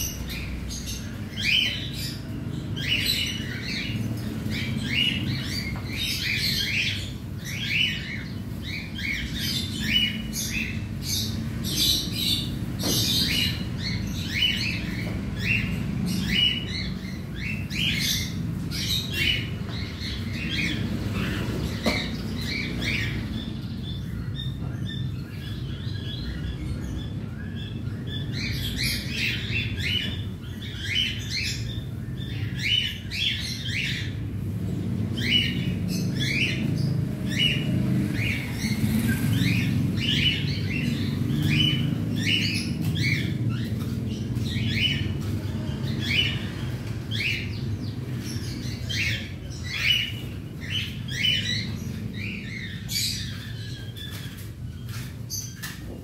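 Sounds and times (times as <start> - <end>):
cockatiels chirping: 0.0 - 56.0.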